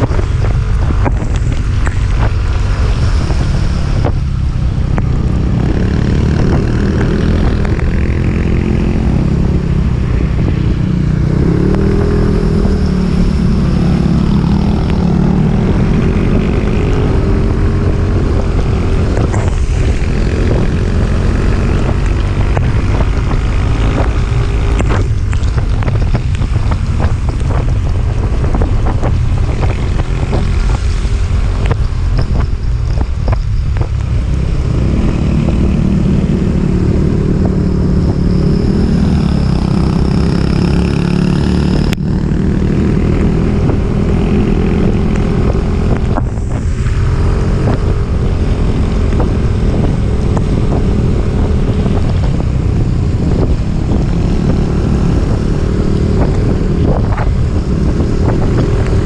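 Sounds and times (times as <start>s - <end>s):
vehicle engine running: 0.0s - 59.0s
wind noise on microphone: 0.0s - 59.0s.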